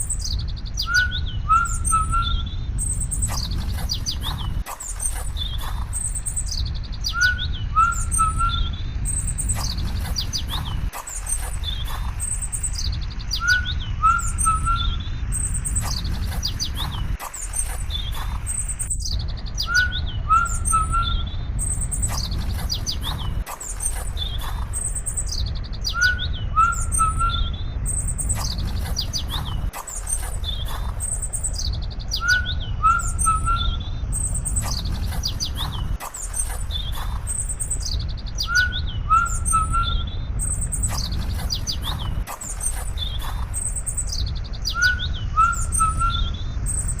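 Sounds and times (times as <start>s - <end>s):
birds chirping and twittering: 0.0s - 47.0s
steady low rumble: 0.0s - 47.0s.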